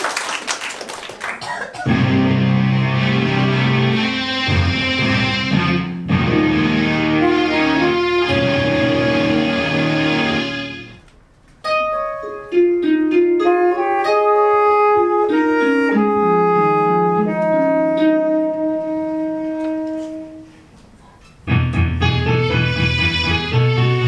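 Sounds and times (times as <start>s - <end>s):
piano and wind instruments music: 1.9s - 11.0s, 11.6s - 20.5s, 21.7s - 24.0s.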